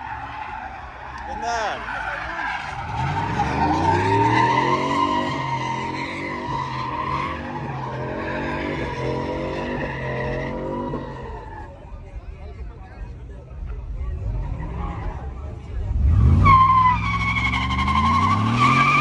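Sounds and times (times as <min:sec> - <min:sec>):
truck engine revving: 0:00.0 - 0:11.8, 0:14.1 - 0:19.0
tires squealing: 0:00.0 - 0:12.1, 0:14.0 - 0:19.0.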